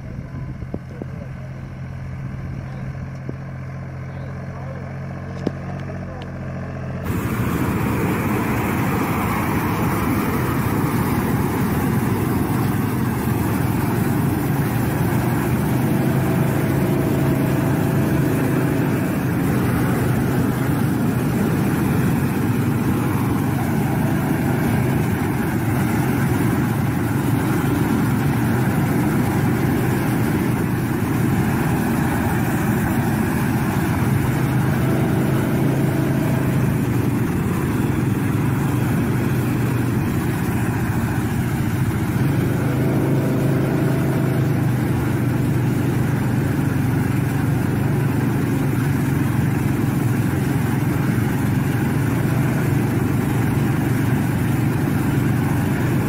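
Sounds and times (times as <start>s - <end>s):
tractor engine running: 0.0s - 56.0s
gas burner flames rushing: 7.0s - 56.0s.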